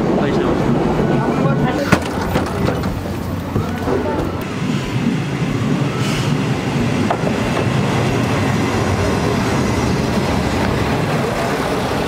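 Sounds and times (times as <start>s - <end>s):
railcar wheels rolling on rails: 0.0s - 12.0s.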